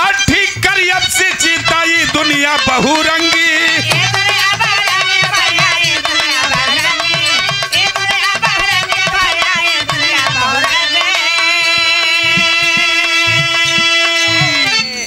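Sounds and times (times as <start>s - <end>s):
harmonium: 0.0s - 15.0s
man singing: 0.0s - 15.0s.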